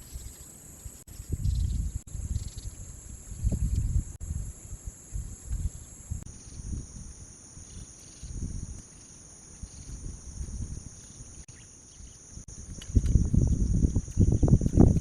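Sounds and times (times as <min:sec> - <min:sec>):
wind buffeting microphone: 0:00.0 - 0:09.0, 0:09.6 - 0:11.4, 0:12.0 - 0:15.0
insects droning: 0:00.0 - 0:15.0.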